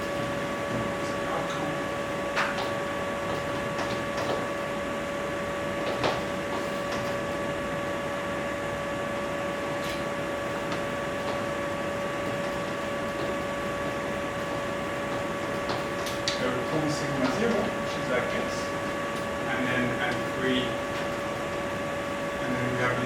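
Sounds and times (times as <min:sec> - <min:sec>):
electrical whine: 0:00.0 - 0:23.0.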